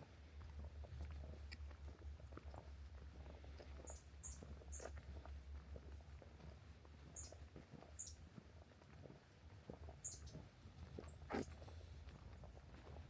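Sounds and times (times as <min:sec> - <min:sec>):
footsteps crunching on trail: 0:00.3 - 0:13.0.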